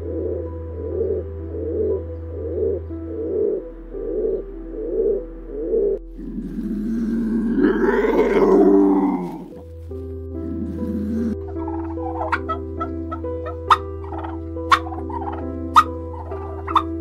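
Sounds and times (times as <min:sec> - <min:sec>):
pigeons cooing: 0:00.0 - 0:09.6, 0:10.4 - 0:17.0
soft background music: 0:00.0 - 0:17.0.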